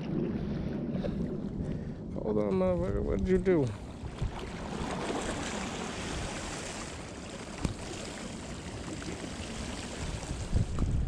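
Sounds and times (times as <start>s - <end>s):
lake water washing against shore: 0.0s - 11.0s.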